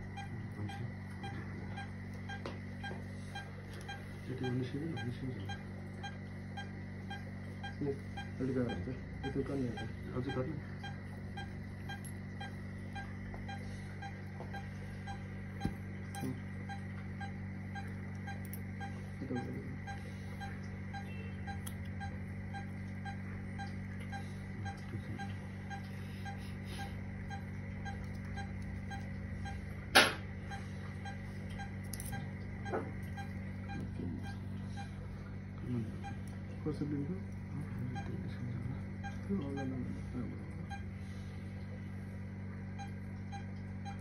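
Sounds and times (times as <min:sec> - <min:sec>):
low machine hum: 0:00.0 - 0:44.0
patient monitor soft beeps: 0:00.0 - 0:44.0.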